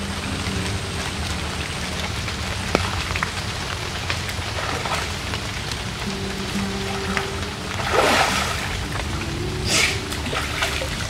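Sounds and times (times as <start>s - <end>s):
raindrop ticks: 0.0s - 11.0s
steady rain on river and leaves: 0.0s - 11.0s.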